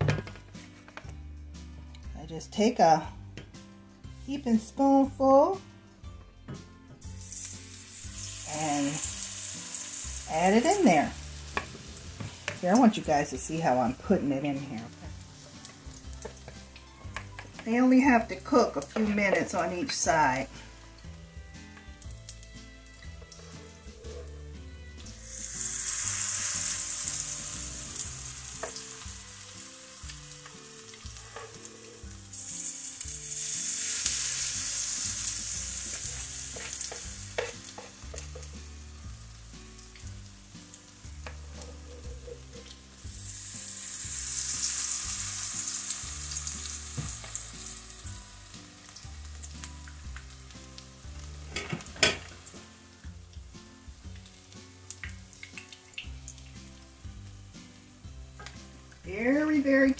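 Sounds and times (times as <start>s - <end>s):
batter sizzling in hot oil: 7.0s - 59.9s.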